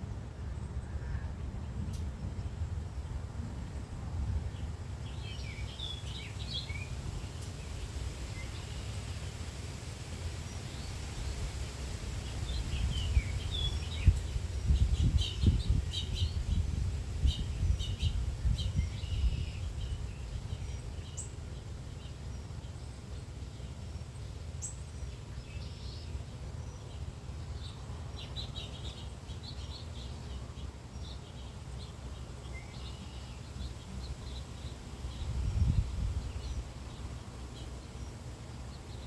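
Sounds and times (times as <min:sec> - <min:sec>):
wild birds chirping: 0:00.4 - 0:39.0.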